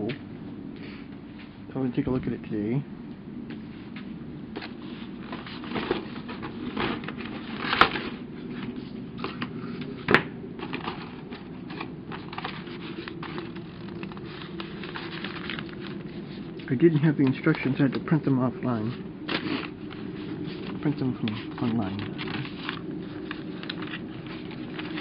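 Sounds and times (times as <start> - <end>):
cardboard and paper rustling: 4.5 - 25.0.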